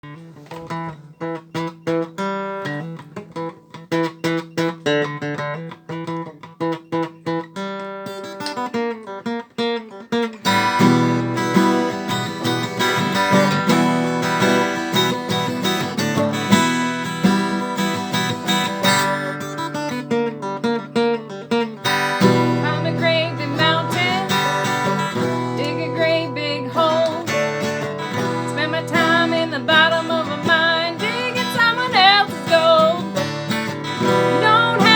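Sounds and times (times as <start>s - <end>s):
acoustic guitar: 0.0s - 34.9s.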